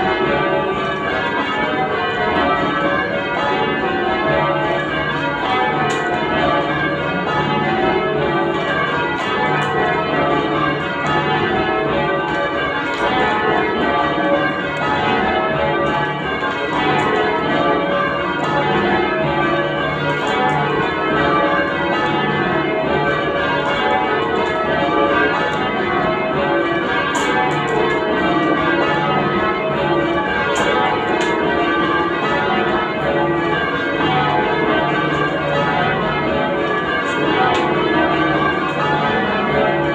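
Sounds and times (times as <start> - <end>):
church bells change ringing: 0.0 - 39.9.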